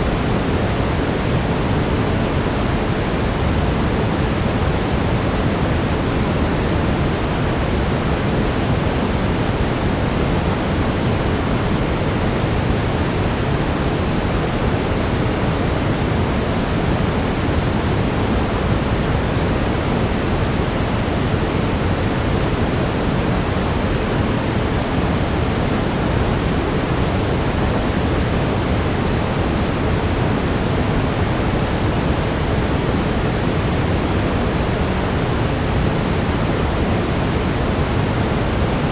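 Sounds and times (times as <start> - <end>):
steady brown noise: 0.0 - 38.9.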